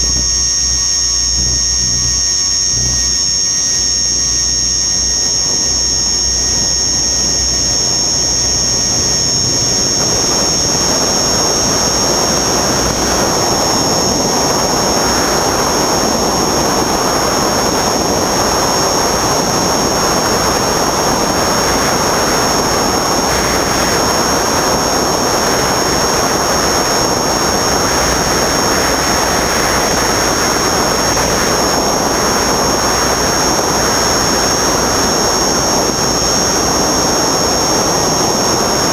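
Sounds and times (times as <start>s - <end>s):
helicopter rotor whine: 0.0s - 38.9s
rush of air noise: 0.0s - 38.9s.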